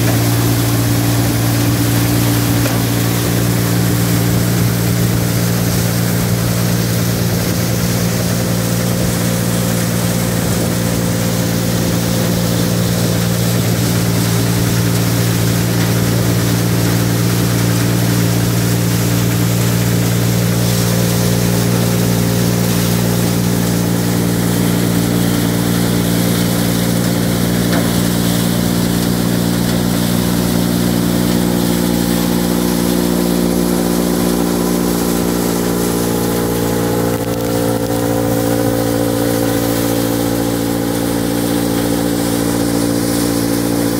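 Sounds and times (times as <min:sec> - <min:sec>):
rushing of fan and grain: 0:00.0 - 0:43.9
thresher engine and drum hum: 0:00.0 - 0:43.9.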